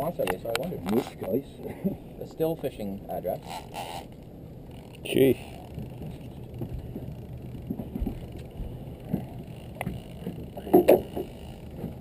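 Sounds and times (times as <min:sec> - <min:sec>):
boat engine low hum: 0:00.0 - 0:12.0.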